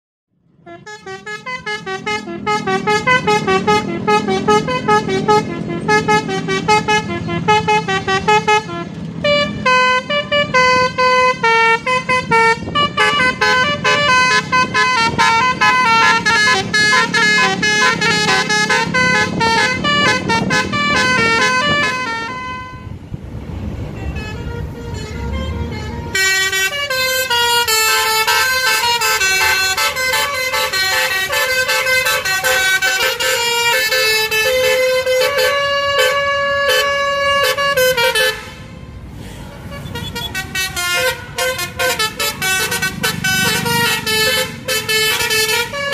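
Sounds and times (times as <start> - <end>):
engine and road rumble: 0.3 - 45.9
musical bus horn melodies: 0.5 - 23.0, 23.9 - 45.9.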